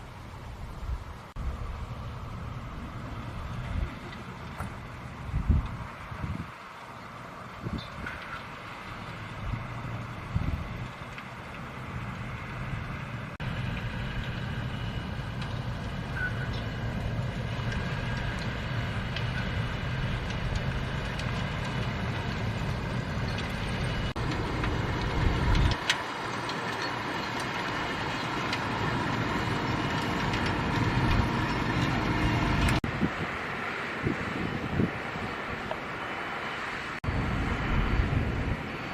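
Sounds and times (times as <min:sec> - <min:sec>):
harvester machinery noise: 0:00.0 - 0:38.9
tractor engine drone: 0:00.0 - 0:38.9.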